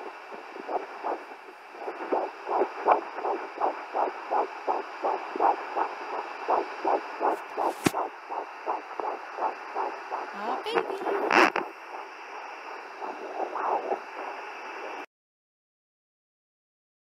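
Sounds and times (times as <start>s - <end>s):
steady hiss: 0.0s - 15.1s
whooshing fetal heartbeat pulses: 0.0s - 15.1s.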